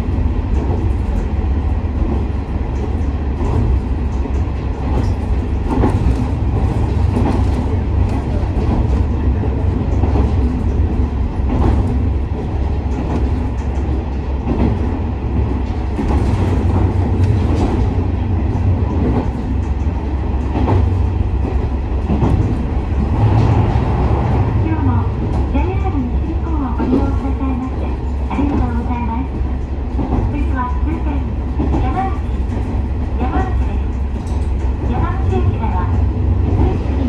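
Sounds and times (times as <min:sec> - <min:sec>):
railcar engine drone: 0:00.0 - 0:37.0.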